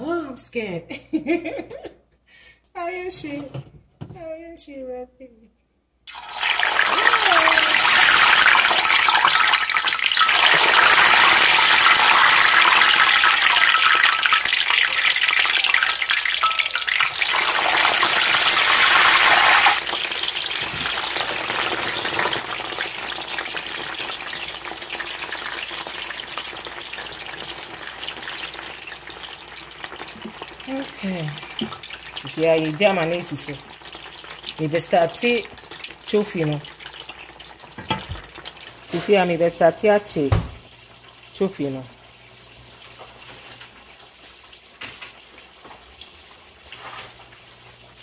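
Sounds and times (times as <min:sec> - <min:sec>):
food sizzling in hot oil: 0:06.1 - 0:48.0.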